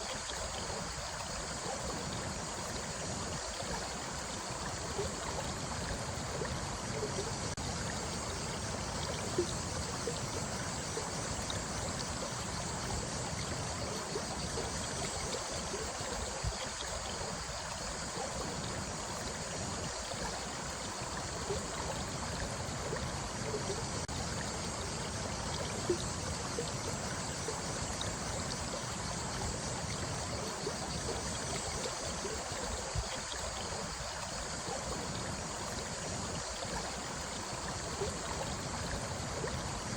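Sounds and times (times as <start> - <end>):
running water: 0.0 - 39.9
sharper water sounds: 0.0 - 39.9.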